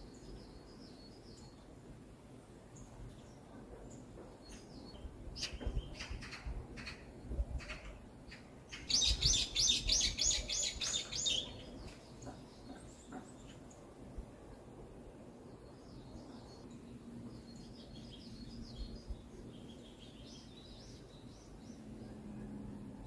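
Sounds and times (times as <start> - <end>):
forest birdsong: 0.0 - 14.7, 15.4 - 22.6.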